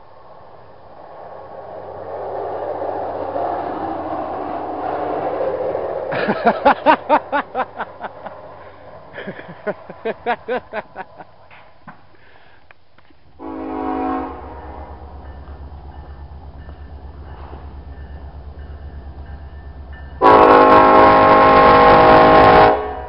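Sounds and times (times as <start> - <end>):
truck rumbling on rail track: 0.0 - 23.0.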